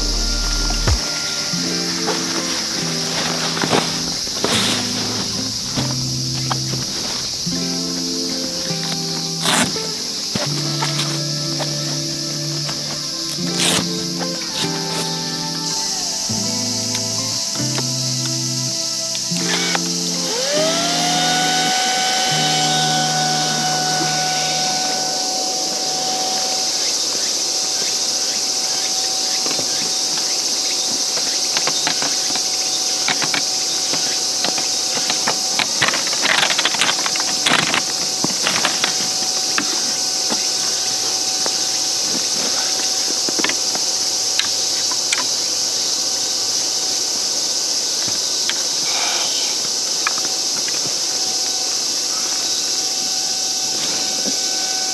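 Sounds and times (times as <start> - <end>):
electric air pump whining: 0.0 - 43.9, 52.1 - 54.9
insects buzzing: 0.0 - 54.9.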